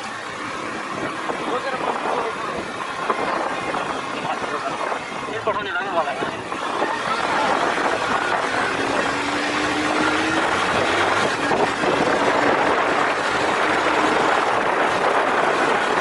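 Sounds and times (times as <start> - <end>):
motorcycle engine hum: 0.0 - 16.0
wind rushing over microphone: 0.0 - 16.0.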